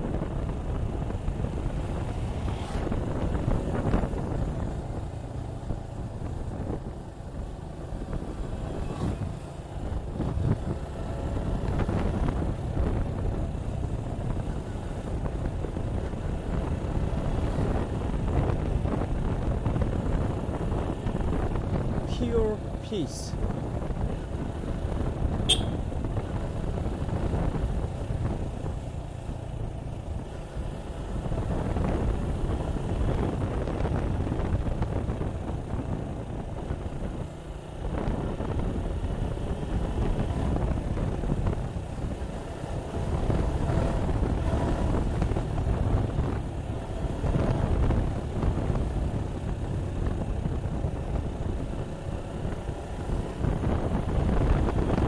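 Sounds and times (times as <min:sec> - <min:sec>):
motorcycle engine running: 0:00.0 - 0:22.8, 0:23.4 - 0:55.0.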